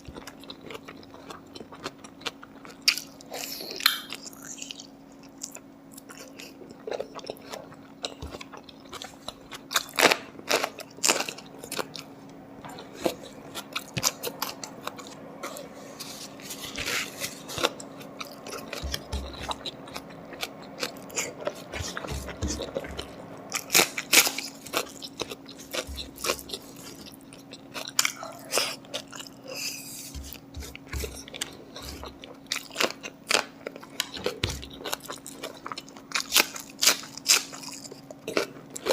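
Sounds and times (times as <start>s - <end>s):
faint steady hum: 0.0s - 38.9s
person chewing crunchy food: 0.0s - 38.9s.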